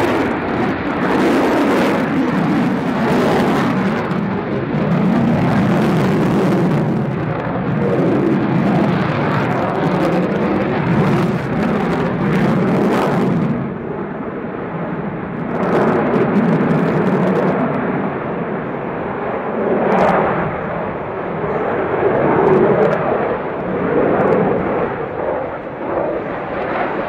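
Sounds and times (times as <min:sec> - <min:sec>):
jet flying overhead: 0:00.0 - 0:27.0.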